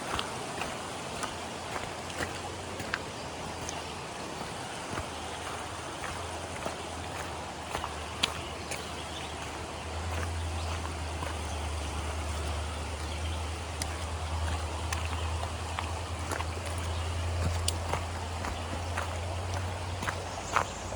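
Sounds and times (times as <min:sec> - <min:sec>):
footsteps on trail: 0:00.0 - 0:20.9
river rushing: 0:00.0 - 0:20.9.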